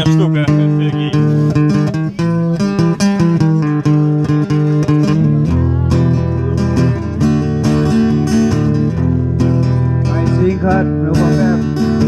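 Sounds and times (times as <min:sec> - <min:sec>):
live blues band: 0:00.0 - 0:12.0
strummed acoustic guitar: 0:00.0 - 0:12.0.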